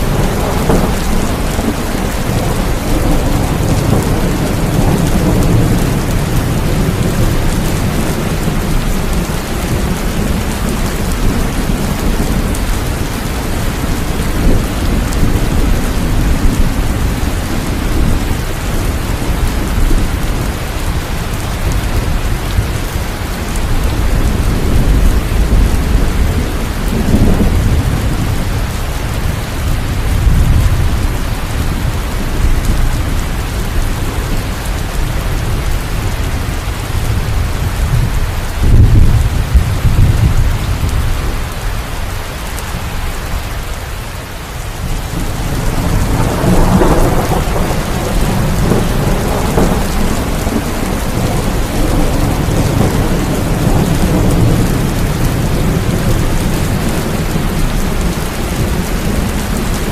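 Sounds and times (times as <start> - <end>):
low rolling thunder: 0.0 - 41.9, 44.6 - 59.9
heavy rain: 0.0 - 59.9.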